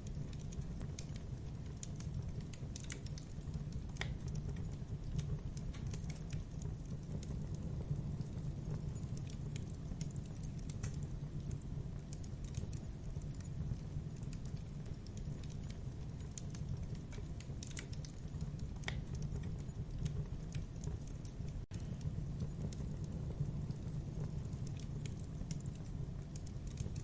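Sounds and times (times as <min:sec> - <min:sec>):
burning wood crackling and popping: 0:00.0 - 0:27.0
campfire flames rumbling: 0:00.0 - 0:27.0.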